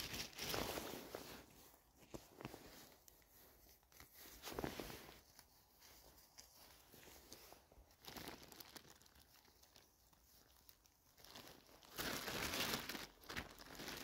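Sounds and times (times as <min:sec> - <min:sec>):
crinkling rustles: 0:00.0 - 0:14.0.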